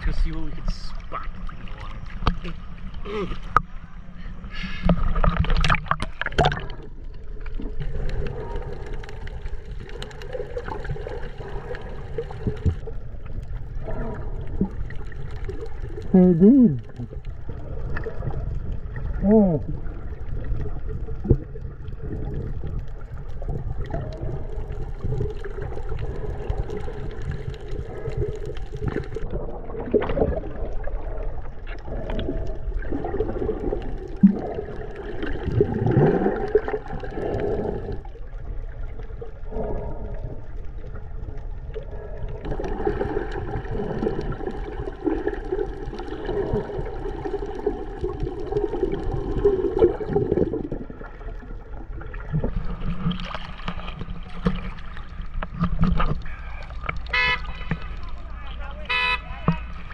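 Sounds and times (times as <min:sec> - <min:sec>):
water gurgling underwater: 0:04.7 - 0:59.9.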